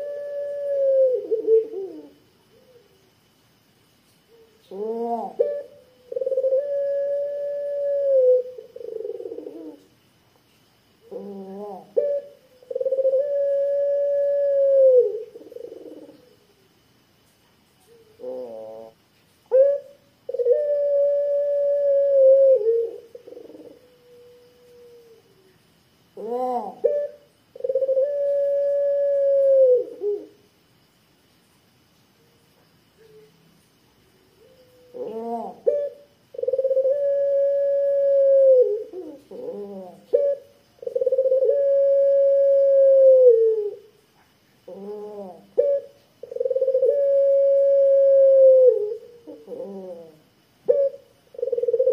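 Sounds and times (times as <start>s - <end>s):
dove cooing: 0.0s - 3.0s, 4.3s - 9.9s, 11.0s - 16.5s, 17.8s - 25.5s, 26.2s - 30.4s, 34.4s - 43.9s, 44.7s - 51.9s.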